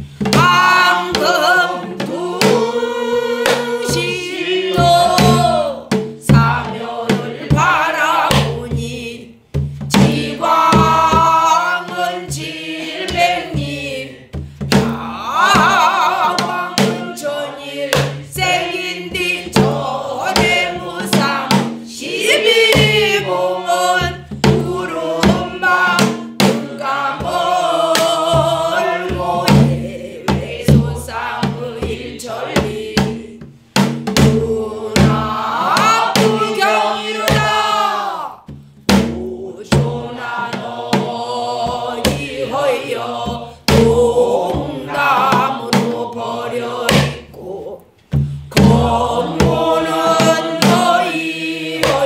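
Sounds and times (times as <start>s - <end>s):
barrel drum strokes: 0.0s - 47.4s, 48.0s - 52.0s
group singing in unison: 0.0s - 52.0s.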